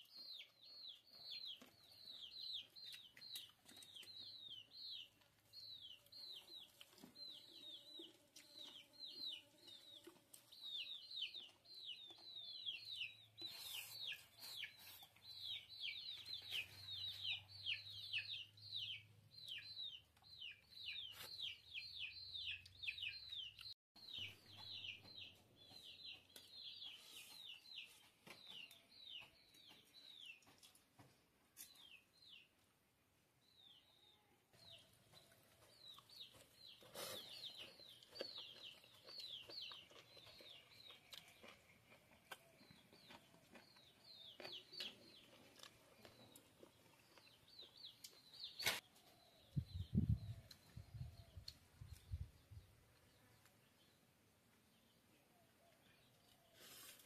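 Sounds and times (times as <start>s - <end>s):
chicks peeping: 0.0s - 32.6s, 33.6s - 54.0s.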